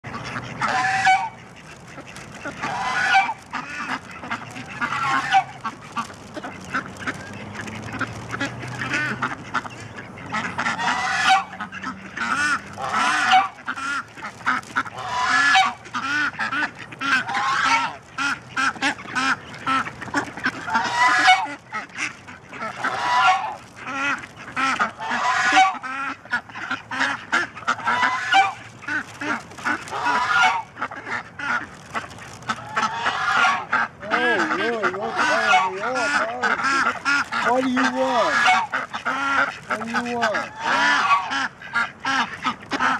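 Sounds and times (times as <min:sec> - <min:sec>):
waterfowl calling: 0:00.0 - 0:42.9.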